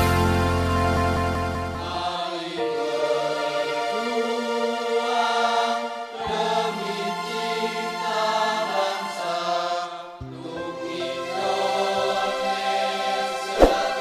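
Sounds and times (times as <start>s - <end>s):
choral voices holding long notes: 0.6s - 14.0s.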